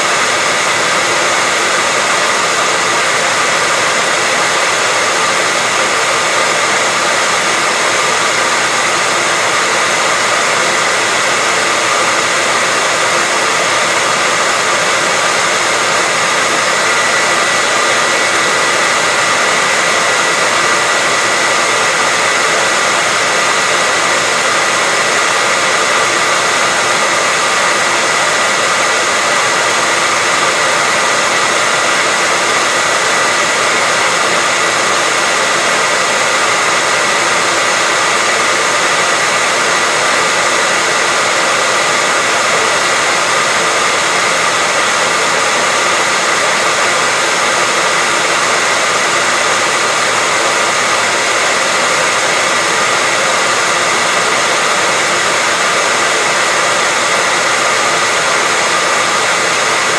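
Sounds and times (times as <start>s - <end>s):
hairdryer running: 0.0s - 59.9s.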